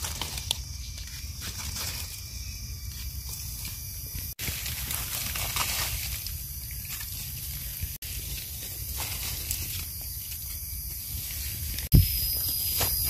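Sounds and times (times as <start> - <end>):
dry leaves rustling: 0.0 - 13.0
steady high forest hiss: 0.0 - 13.0.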